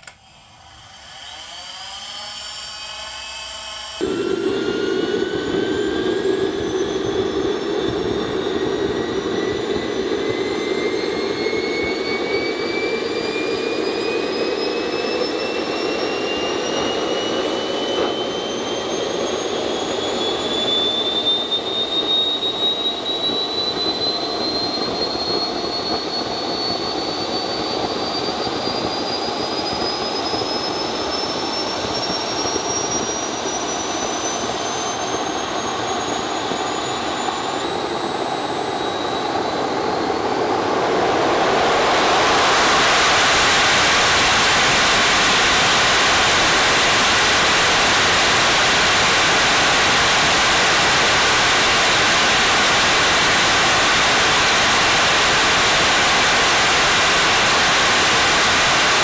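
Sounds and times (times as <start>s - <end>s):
turbine jet engine whine: 0.0s - 59.0s
jet rush: 4.0s - 59.0s.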